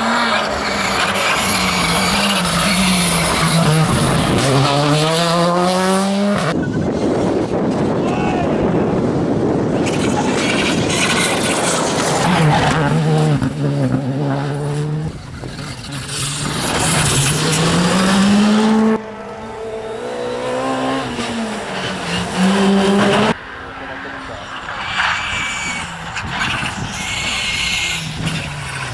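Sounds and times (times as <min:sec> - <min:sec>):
rally cars revving past: 0:00.0 - 0:07.9, 0:08.9 - 0:28.9.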